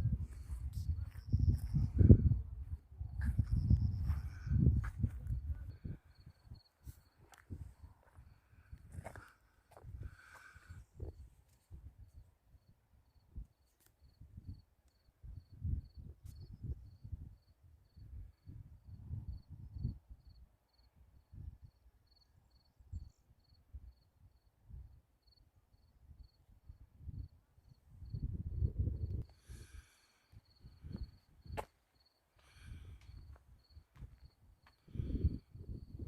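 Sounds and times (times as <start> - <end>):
cricket chirping: 0.4 - 2.4, 3.2 - 9.2, 12.6 - 24.5, 25.2 - 26.4, 27.1 - 36.0.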